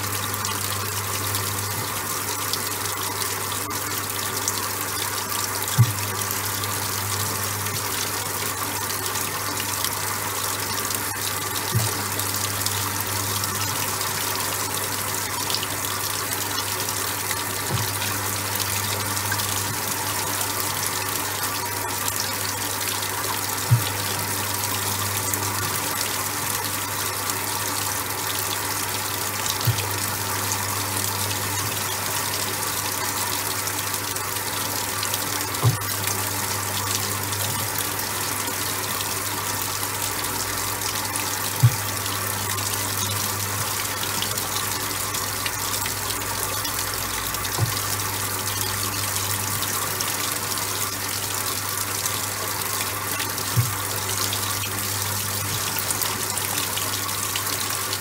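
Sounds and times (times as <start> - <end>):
churning water: 0.0 - 58.0
washing machine motor hum: 0.0 - 58.0.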